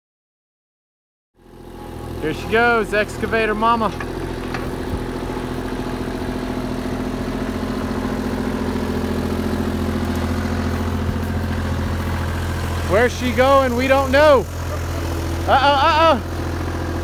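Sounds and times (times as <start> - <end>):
excavator engine droning: 1.4 - 17.0.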